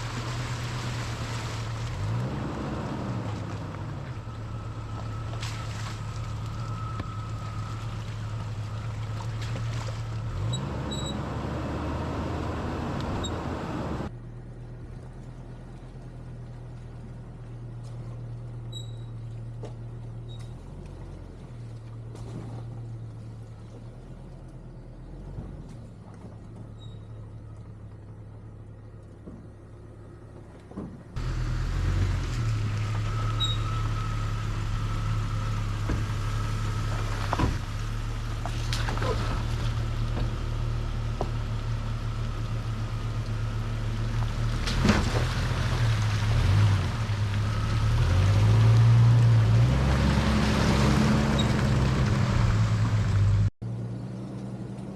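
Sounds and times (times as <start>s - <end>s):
tyre and road noise: 0.0s - 54.9s.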